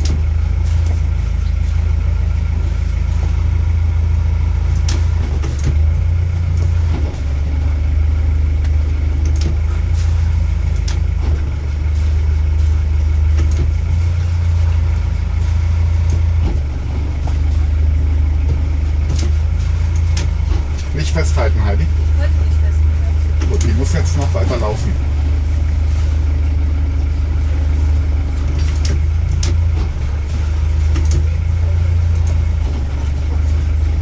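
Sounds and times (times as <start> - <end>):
motorboat engine humming: 0.0 - 34.0.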